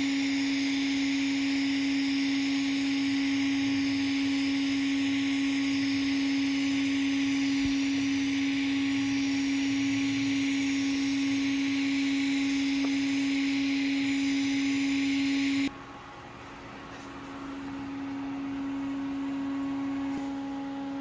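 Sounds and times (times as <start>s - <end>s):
welding arc humming and hissing: 0.0s - 21.0s.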